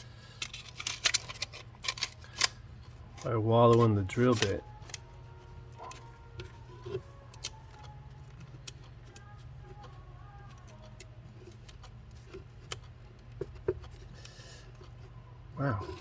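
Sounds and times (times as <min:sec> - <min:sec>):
tools clicking and tapping: 0:00.0 - 0:05.1, 0:05.7 - 0:15.0
steady low hum: 0:00.0 - 0:16.0.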